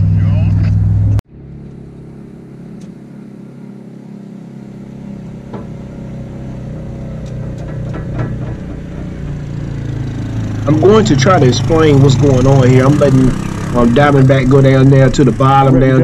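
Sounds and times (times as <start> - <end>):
utility vehicle engine running: 0.0 - 16.0.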